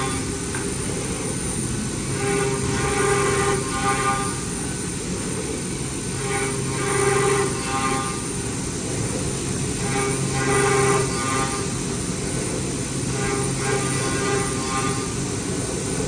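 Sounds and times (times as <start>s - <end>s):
milling machine whining: 0.0s - 16.0s.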